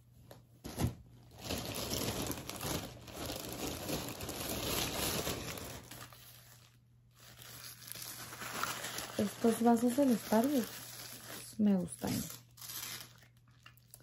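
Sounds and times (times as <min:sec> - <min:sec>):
packaging crinkling and rustling: 0:00.3 - 0:14.0.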